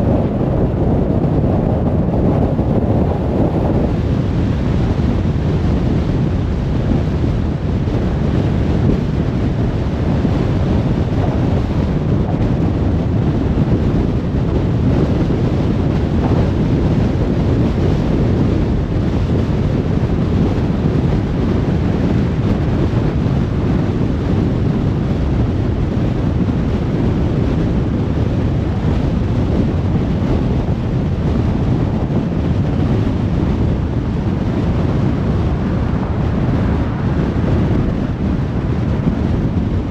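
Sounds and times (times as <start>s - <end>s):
highway traffic rushing: 0.0s - 39.9s.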